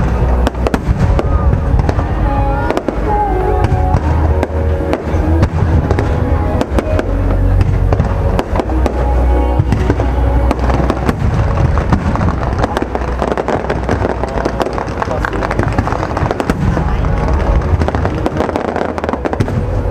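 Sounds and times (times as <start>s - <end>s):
fireworks cracking and booming: 0.0s - 19.9s
music playing: 0.0s - 19.9s.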